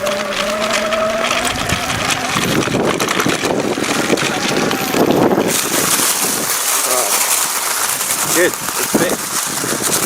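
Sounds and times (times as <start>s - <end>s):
electric motor whining: 0.0s - 10.0s
road rumble: 0.0s - 10.0s
wind buffeting microphone: 0.0s - 10.0s.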